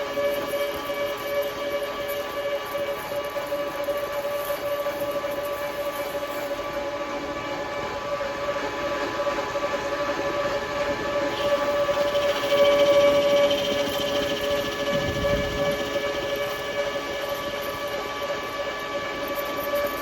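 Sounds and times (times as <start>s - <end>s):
metal lathe whining: 0.0s - 20.0s.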